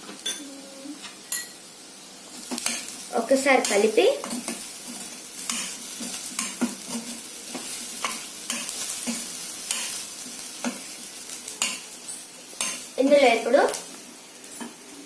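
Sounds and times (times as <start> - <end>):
food sizzling: 0.0 - 15.0.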